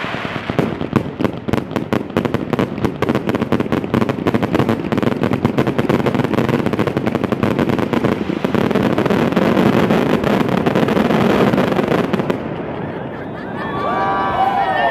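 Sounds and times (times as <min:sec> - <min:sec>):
fireworks bangs and crackles: 0:00.0 - 0:14.5.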